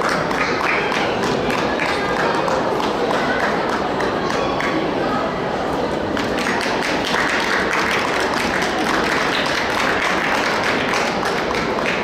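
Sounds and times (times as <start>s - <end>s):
sharp claps: 0.0s - 4.8s, 6.2s - 12.0s
murmur of many voices: 0.0s - 12.0s.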